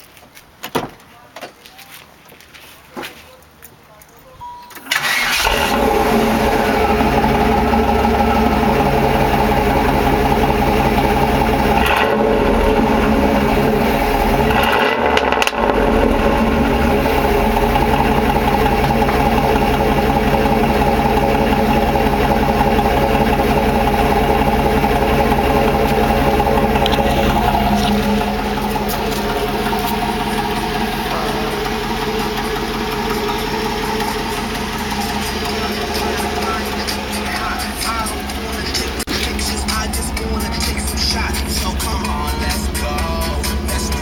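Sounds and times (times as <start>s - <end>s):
car engine starting and idling: 4.7s - 44.0s.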